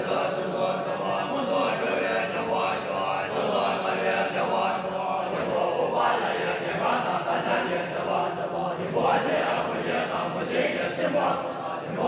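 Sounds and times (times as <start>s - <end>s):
monks chanting: 0.0s - 12.0s.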